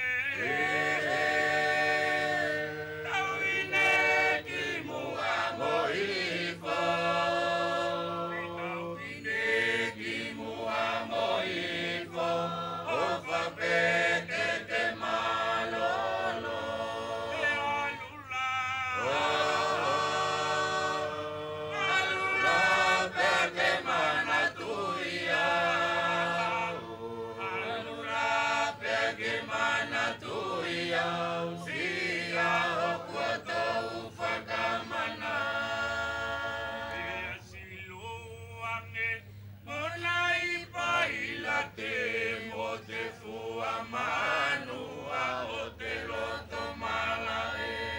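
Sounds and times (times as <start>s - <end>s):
large chorus singing: 0.0s - 47.9s.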